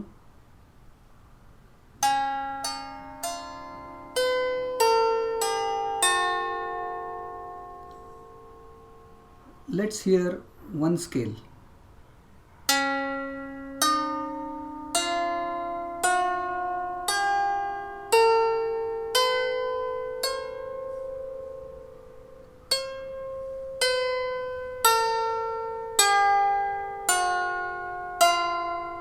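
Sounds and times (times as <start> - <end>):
lyre harp plucked notes: 2.0 - 9.8, 12.7 - 29.0.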